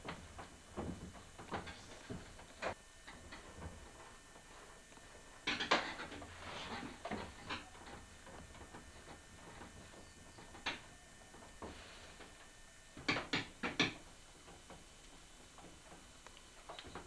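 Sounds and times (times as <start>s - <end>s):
potter's wheel knocks and scrapes: 0.0s - 4.6s, 5.2s - 12.4s, 13.0s - 16.0s.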